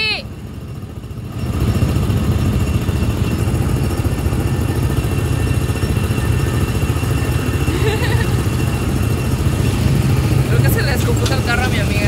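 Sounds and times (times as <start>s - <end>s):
small gasoline engines rumbling: 0.0s - 12.0s.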